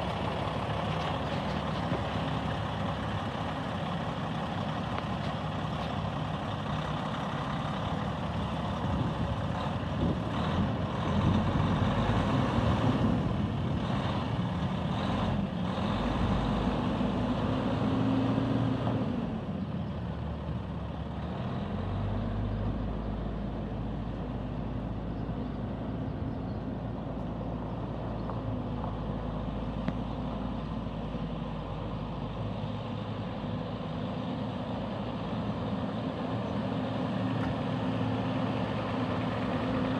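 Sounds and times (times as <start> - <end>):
truck diesel engine pulling away: 0.0 - 39.9.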